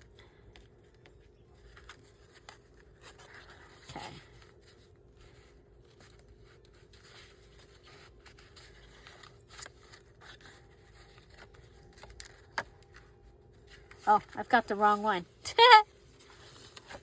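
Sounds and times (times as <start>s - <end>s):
faint steady hum: 0.0s - 17.0s
paper and craft supplies handled: 0.0s - 17.0s.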